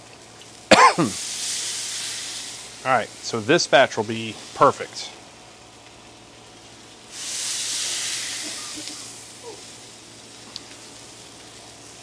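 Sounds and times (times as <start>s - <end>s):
liquid sizzling on hot griddle: 0.0s - 12.0s.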